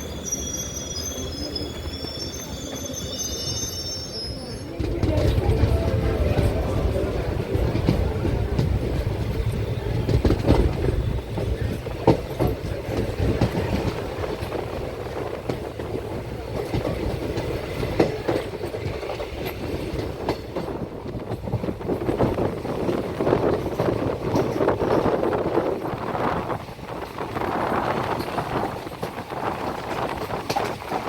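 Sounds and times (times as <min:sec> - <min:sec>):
train coaches rumbling: 0:00.0 - 0:31.0.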